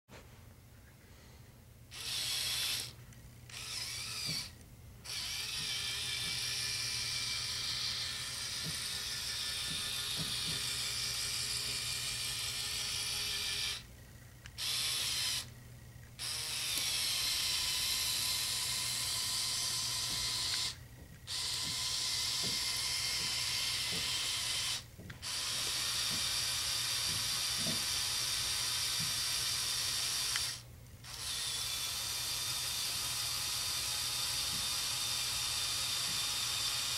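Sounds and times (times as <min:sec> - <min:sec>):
electric motors whirring: 0:01.9 - 0:36.9.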